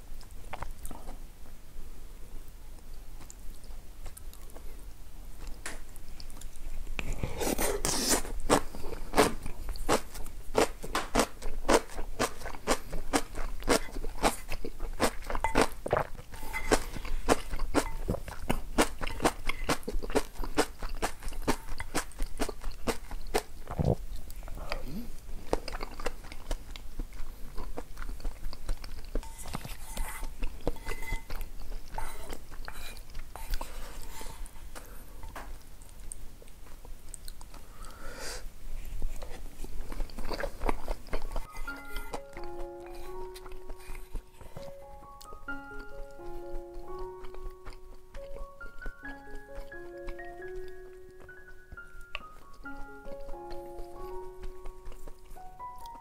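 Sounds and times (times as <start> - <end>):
person chewing food: 0.0 - 1.2, 2.8 - 56.0.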